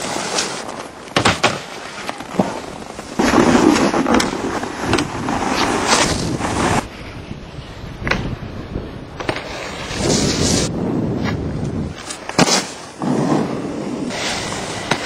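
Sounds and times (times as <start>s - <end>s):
snowboard scraping over snow: 0.0s - 1.0s, 1.7s - 15.0s.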